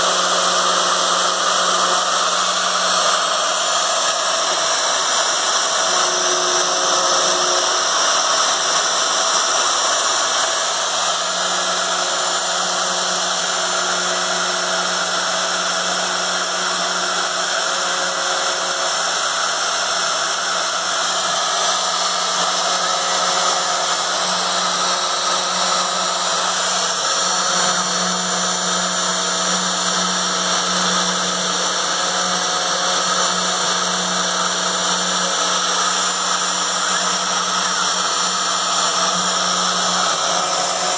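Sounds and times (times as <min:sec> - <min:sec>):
spindle motor whine: 0:00.0 - 0:40.9.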